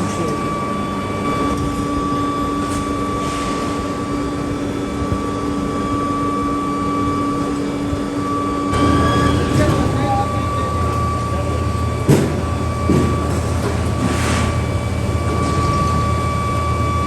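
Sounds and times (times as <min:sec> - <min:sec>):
factory machinery humming: 0:00.0 - 0:17.0.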